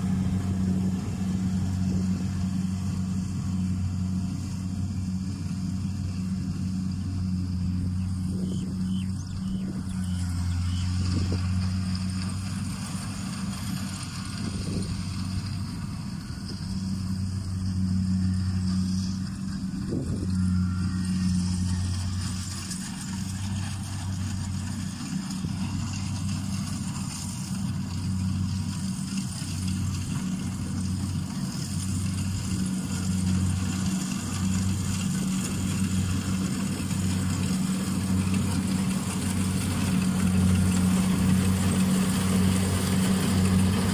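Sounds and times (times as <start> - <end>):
combine harvester diesel engine: 0.0 - 43.9.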